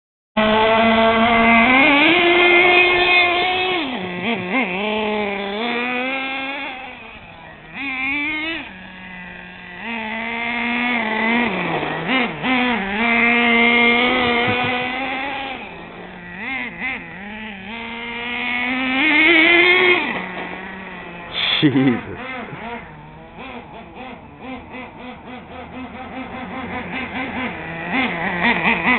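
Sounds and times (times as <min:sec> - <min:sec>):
small engine revving: 0:00.4 - 0:28.9.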